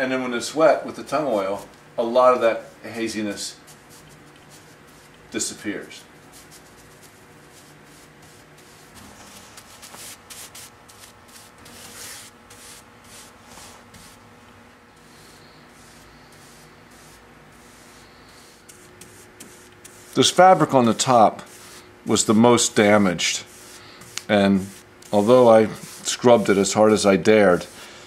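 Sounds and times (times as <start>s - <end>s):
paintbrush brushing strokes: 2.8s - 28.0s.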